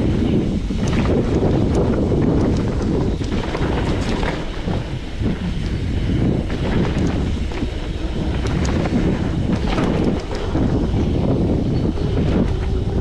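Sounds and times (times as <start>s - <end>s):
bike rattling over bumps: 0.0s - 13.0s
wind rumble on microphone: 0.0s - 13.0s.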